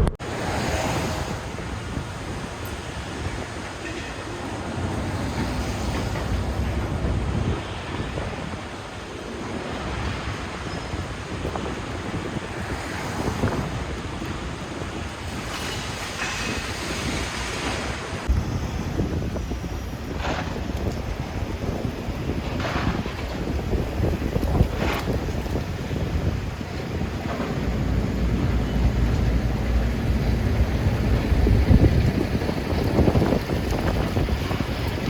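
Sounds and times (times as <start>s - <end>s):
wet road noise: 0.0s - 35.0s
wind noise in truck cab: 0.0s - 35.0s.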